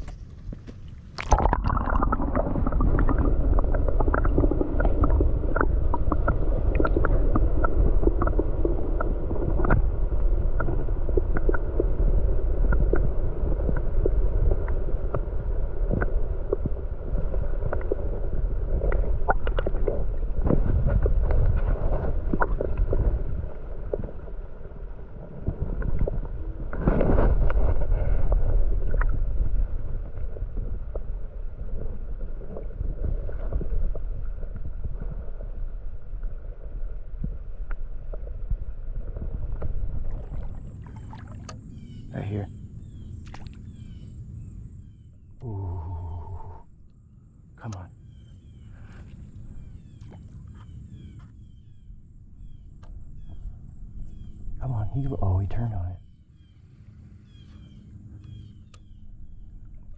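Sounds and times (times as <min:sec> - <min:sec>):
muffled underwater wash: 0:00.0 - 0:59.9.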